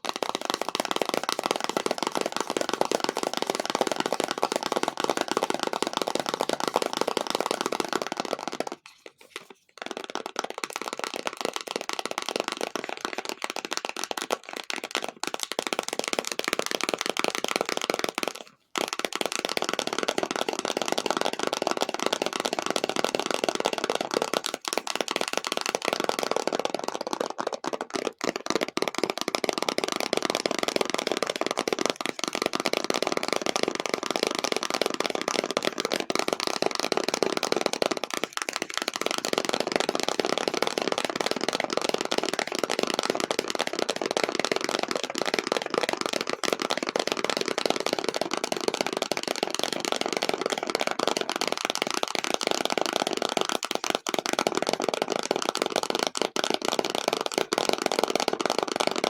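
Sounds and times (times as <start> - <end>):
fast tapping on an object: 0.0 - 59.0.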